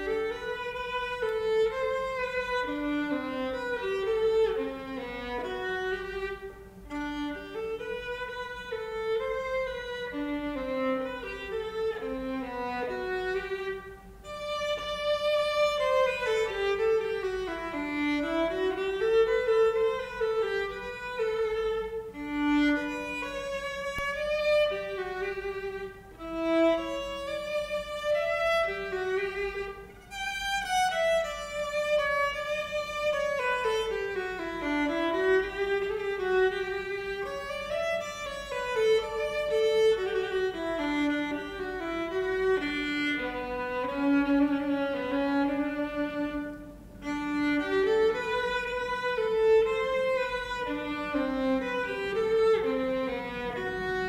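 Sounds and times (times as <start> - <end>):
solo violin melody: 0.0 - 54.0.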